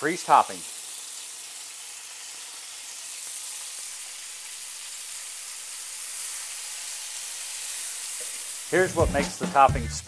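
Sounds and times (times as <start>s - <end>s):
fish sizzling in a skillet: 0.0s - 9.7s.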